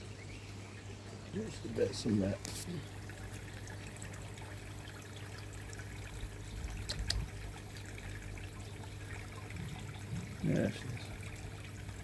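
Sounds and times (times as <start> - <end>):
water trickling into a pond: 0.0 - 12.0.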